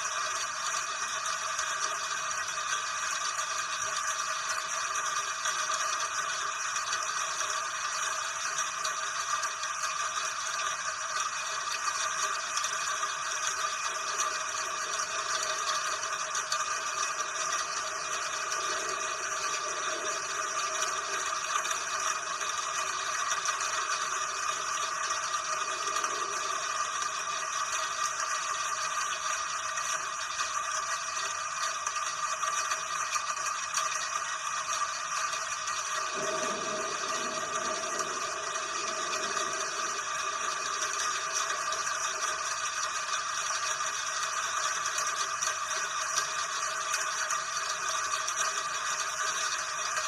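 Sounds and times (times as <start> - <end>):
steady rain: 3.0 - 31.3, 32.2 - 50.0.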